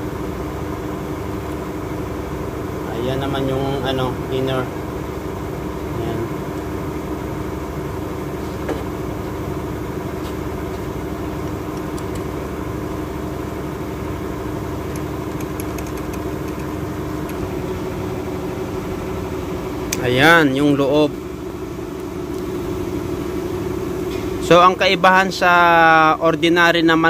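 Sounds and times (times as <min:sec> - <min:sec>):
motor humming: 0:00.0 - 0:25.6.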